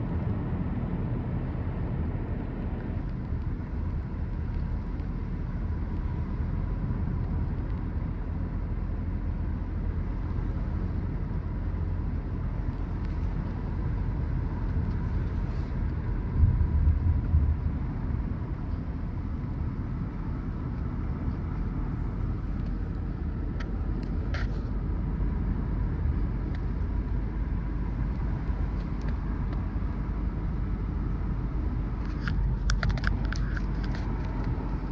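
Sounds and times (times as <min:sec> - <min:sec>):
tyres and engine rumbling: 0:00.0 - 0:34.9.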